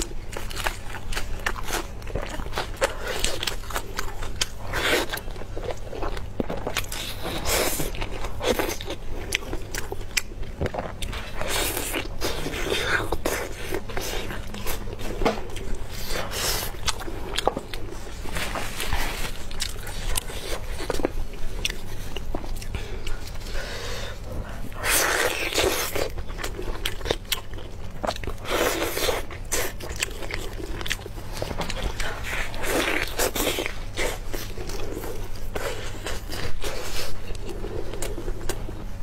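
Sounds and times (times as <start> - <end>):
biting and chewing: 0.0 - 39.0.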